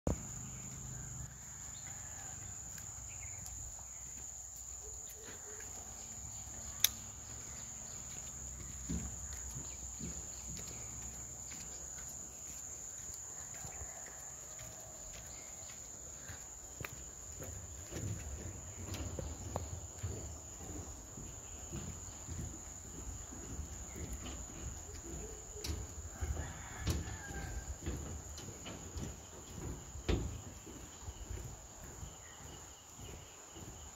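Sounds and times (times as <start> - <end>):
footsteps on steel deck: 0.1 - 33.9
high insect drone: 0.1 - 33.9.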